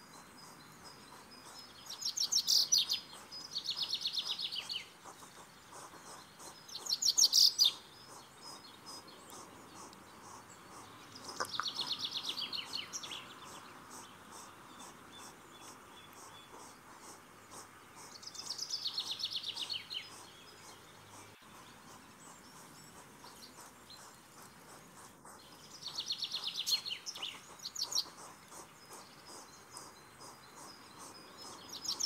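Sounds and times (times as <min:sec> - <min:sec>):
faint outdoor background: 0:00.0 - 0:32.0
songbird trilling: 0:00.0 - 0:32.0.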